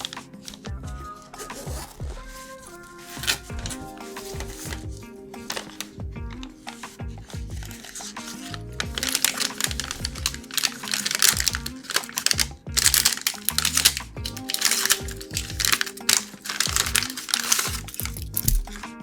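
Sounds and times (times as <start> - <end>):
background music: 0.0 - 19.0
rustling: 0.0 - 19.0
rapid clicks: 2.6 - 19.0.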